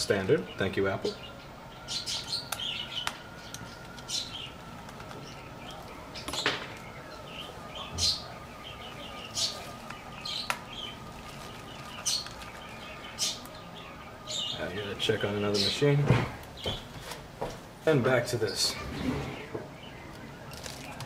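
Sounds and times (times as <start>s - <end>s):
bird chirping: 0.0s - 17.0s, 18.1s - 21.0s
faint steady high whine: 0.0s - 21.0s.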